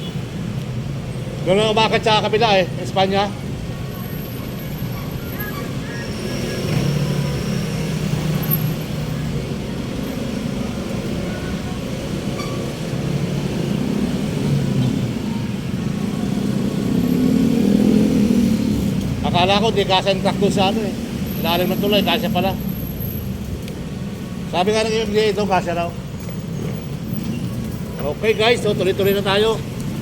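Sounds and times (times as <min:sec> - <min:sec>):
vehicles passing: 0:00.0 - 0:30.0.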